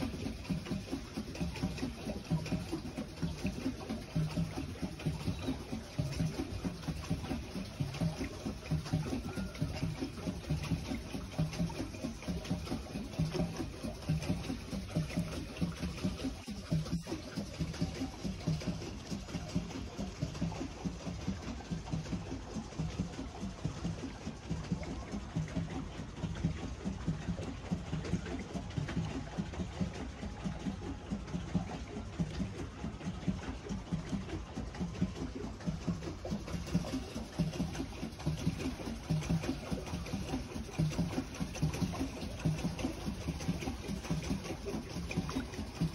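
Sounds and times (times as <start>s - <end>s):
paddle wheel churning water: 0.0s - 45.9s
water sloshing against plastic hull: 0.0s - 45.9s.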